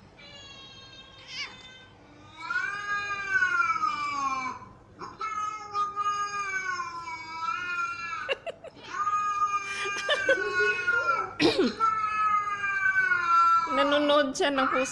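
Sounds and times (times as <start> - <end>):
cat meowing: 0.2 - 8.1, 8.9 - 14.0.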